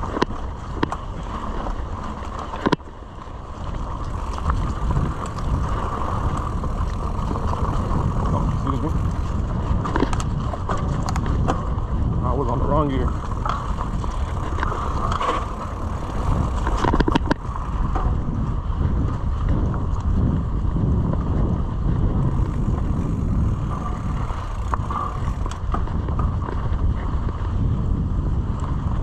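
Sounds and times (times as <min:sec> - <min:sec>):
bike rolling and rattling: 0:00.0 - 0:29.0
wind buffeting microphone: 0:00.0 - 0:29.0.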